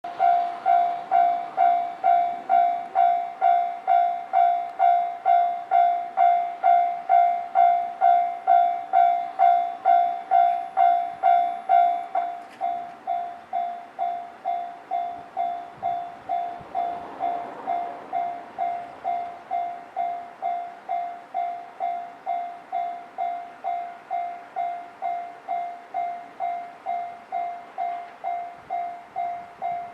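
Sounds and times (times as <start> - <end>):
level crossing warning bell: 0.1 - 29.9.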